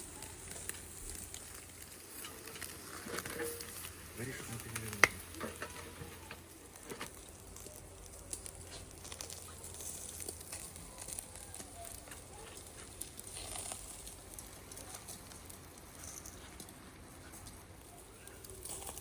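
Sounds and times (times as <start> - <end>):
charcoal grill crackling: 0.0 - 19.0
faint sizzle: 0.0 - 19.0.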